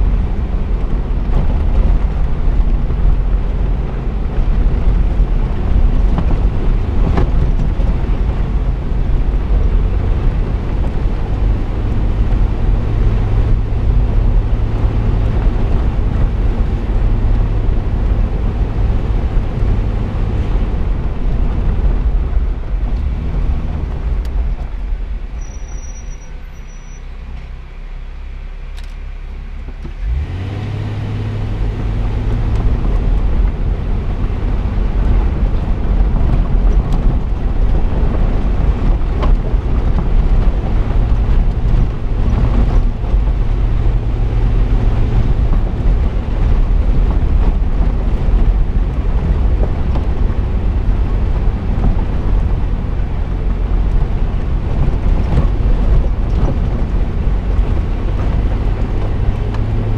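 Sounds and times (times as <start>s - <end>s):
vehicle driving on gravel: 0.0s - 59.9s.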